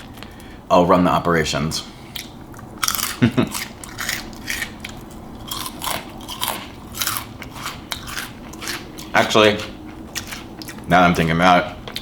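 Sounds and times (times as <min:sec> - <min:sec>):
wet chewing crunches: 0:02.0 - 0:12.0.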